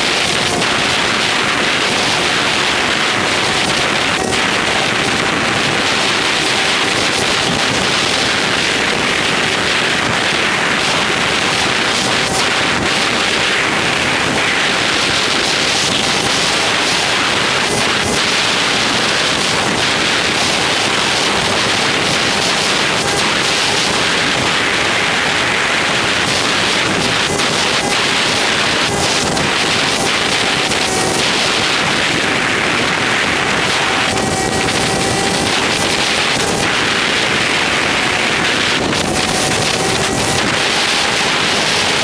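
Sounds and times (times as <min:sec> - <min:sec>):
wind buffeting helmet camera: 0:00.0 - 0:42.0.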